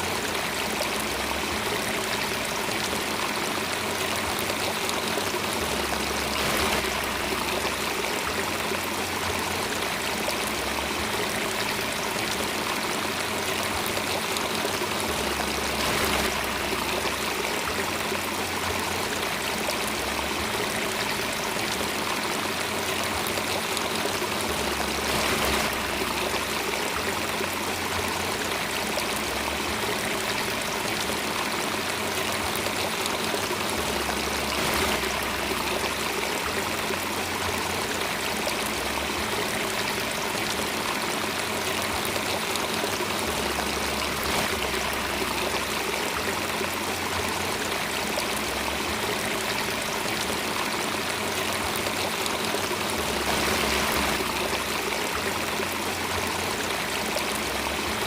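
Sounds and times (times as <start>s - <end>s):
stream water rushing and trickling: 0.0s - 58.0s.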